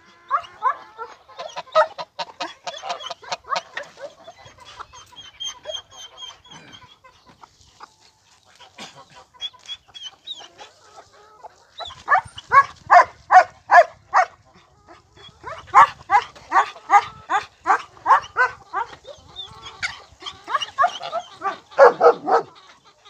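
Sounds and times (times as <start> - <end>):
chickens calling rapidly: 0.0 - 23.0
chicks peeping: 0.1 - 12.8, 14.4 - 23.0.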